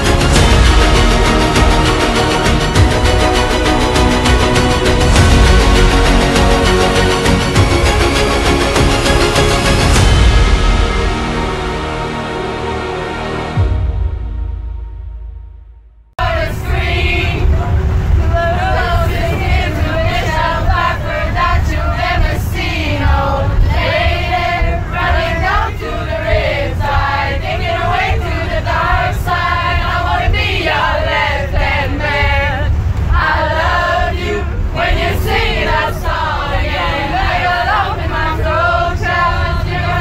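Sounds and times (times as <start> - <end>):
choir singing: 0.0 - 14.1, 16.2 - 40.0
low musical backing: 0.0 - 40.0.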